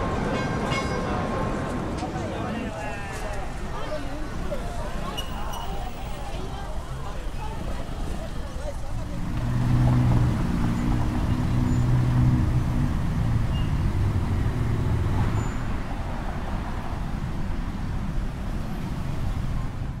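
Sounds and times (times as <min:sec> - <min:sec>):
passing cars and buses: 0:00.0 - 0:20.0.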